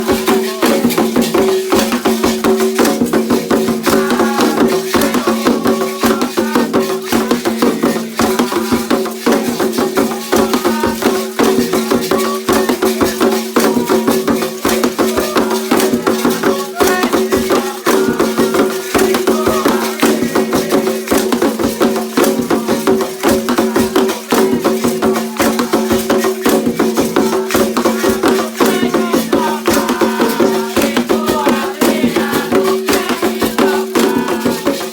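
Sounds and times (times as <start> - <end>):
fast hand percussion with rattles: 0.0 - 34.9
voices singing: 0.0 - 34.9.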